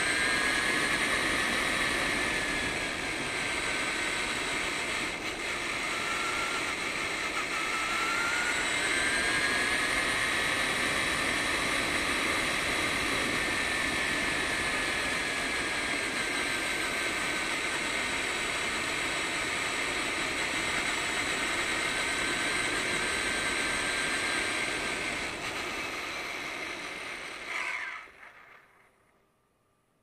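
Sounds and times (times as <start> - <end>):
motor whining: 0.0 - 28.8.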